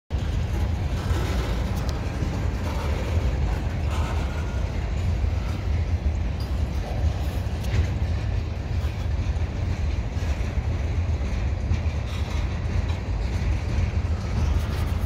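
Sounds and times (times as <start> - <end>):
train wheels rumbling on rail: 0.1 - 15.0.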